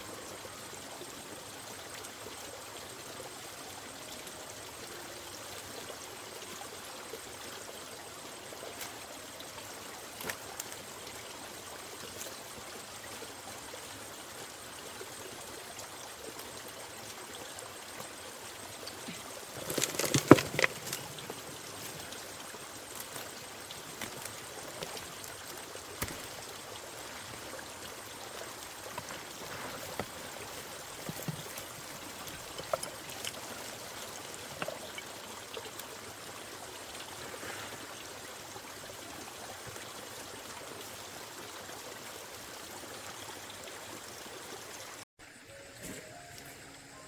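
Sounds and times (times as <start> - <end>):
running water: 0.0 - 47.0.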